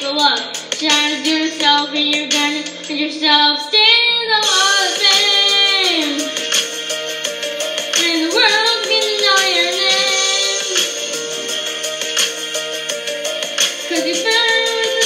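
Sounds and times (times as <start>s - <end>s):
high singing voice: 0.0s - 6.7s, 7.7s - 15.0s
backing music: 0.0s - 15.0s.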